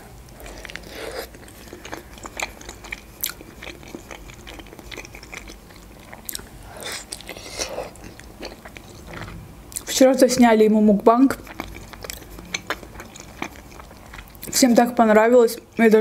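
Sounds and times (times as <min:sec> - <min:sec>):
biting and chewing dumpling: 0:00.2 - 0:09.9, 0:11.3 - 0:14.6.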